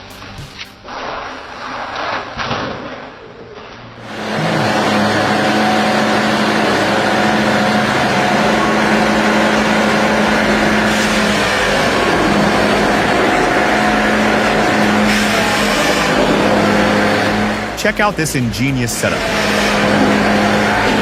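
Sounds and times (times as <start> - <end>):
engine-driven machine droning: 4.0 - 21.0.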